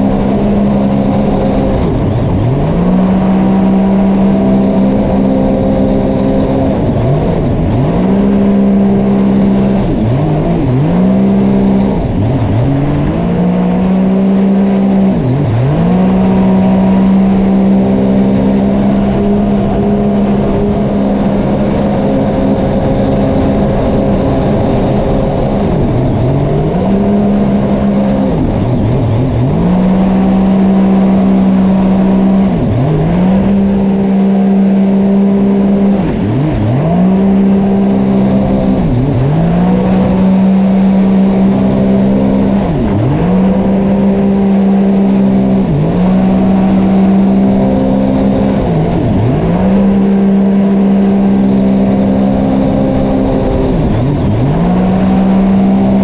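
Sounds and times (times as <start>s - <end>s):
personal watercraft engine running: 0.0s - 56.0s.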